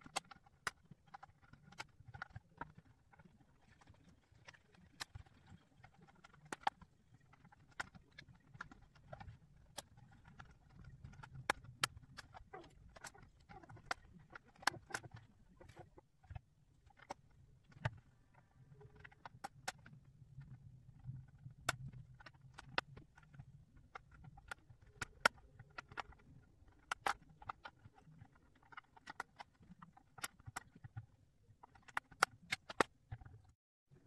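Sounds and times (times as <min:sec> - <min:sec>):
plastic puzzle pieces clicking: 0:00.0 - 0:18.0, 0:18.7 - 0:31.0, 0:31.6 - 0:33.5.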